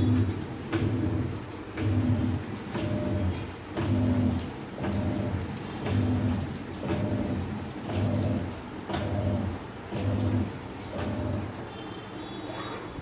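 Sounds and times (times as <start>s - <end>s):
water churning in tub: 0.0s - 11.8s
washing machine motor hum: 0.0s - 13.0s.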